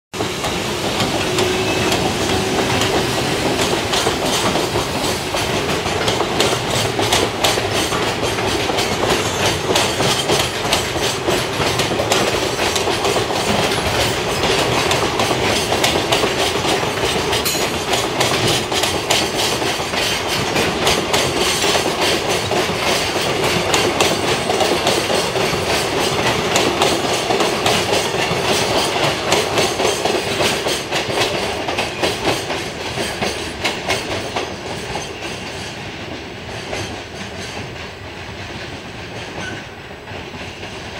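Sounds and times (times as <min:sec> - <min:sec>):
freight train rolling past: 0:00.1 - 0:40.9
wheels clicking over rail joints: 0:00.2 - 0:40.9.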